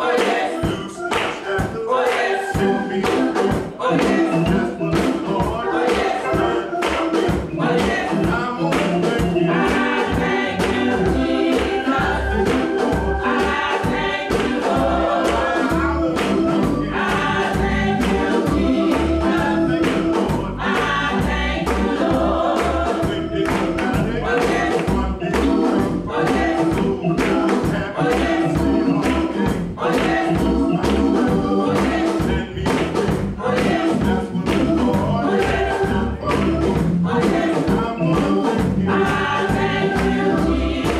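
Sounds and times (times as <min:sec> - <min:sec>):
choir singing gospel music: 0:00.0 - 0:40.9
steady beat: 0:00.0 - 0:40.9.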